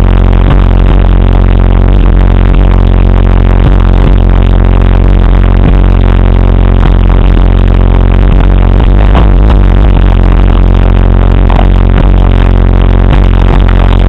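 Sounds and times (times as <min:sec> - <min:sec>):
bass-heavy electronic music: 0:00.0 - 0:14.0.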